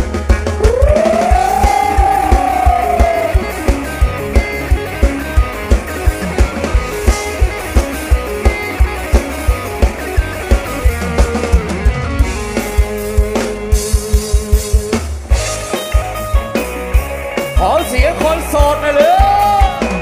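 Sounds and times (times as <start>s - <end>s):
live band playing upbeat music: 0.0s - 20.0s.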